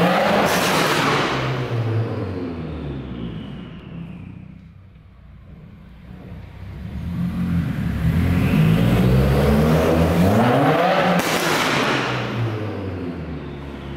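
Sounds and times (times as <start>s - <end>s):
car engine accelerating hard: 0.0s - 4.7s, 5.7s - 13.9s.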